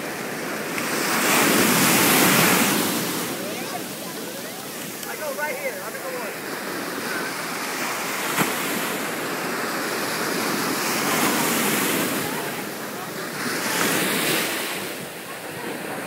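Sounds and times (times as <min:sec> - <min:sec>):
surf waves breaking: 0:00.0 - 0:16.0.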